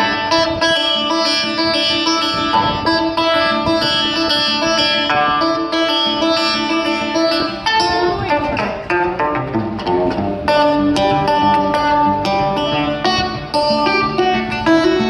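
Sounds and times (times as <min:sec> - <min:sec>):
banjo picking through speakers: 0:00.0 - 0:15.0.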